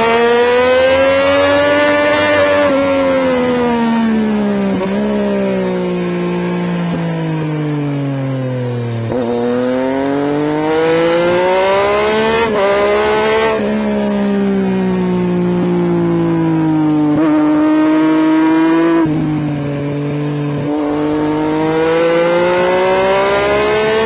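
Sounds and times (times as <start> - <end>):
motorcycle engine at speed: 0.0 - 24.0.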